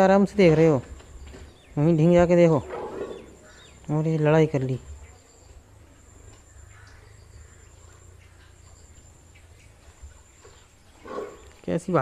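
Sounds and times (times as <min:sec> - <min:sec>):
faint chirps: 0:01.1 - 0:12.0.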